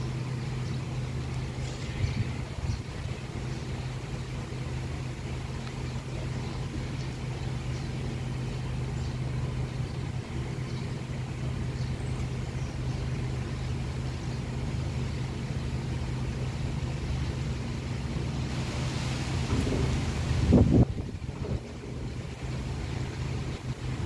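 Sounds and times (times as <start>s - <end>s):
low mechanical hum: 0.0s - 24.0s
wind rustling through trees: 0.0s - 24.0s.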